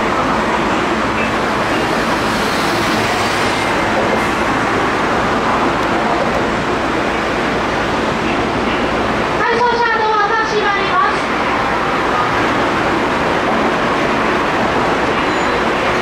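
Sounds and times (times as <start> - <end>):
subway train rushing and rumbling: 0.0 - 16.0.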